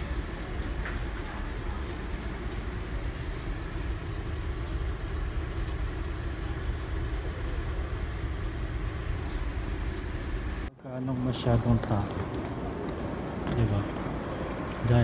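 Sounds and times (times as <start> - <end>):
indoor background rumble and hiss: 0.0 - 15.0.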